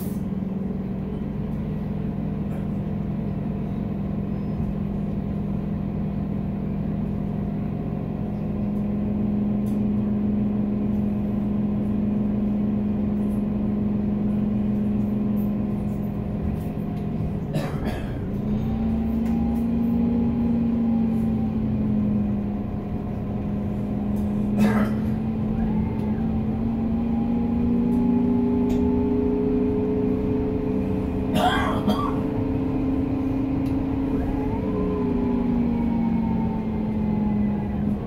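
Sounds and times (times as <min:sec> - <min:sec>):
bus engine humming: 0:00.0 - 0:38.0.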